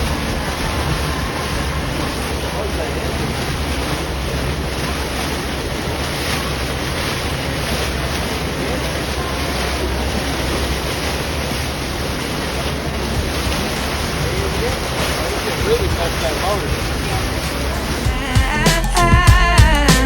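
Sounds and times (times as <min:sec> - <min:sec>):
wind buffeting microphone: 0:00.0 - 0:18.2
rushing water: 0:00.0 - 0:20.0.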